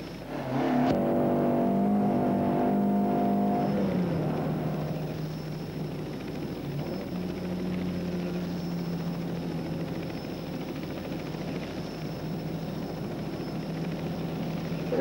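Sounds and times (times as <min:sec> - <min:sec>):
rally car engine running: 0:00.0 - 0:15.0.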